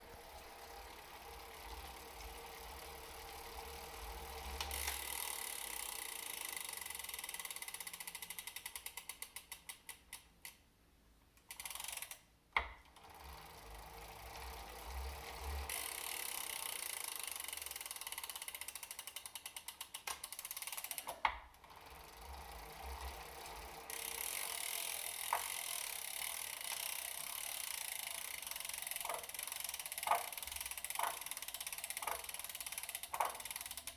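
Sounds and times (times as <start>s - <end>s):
bike trainer whirring: 0.0s - 10.2s, 11.5s - 33.9s
freewheel ratchet clicks: 0.8s - 10.6s, 11.4s - 33.9s.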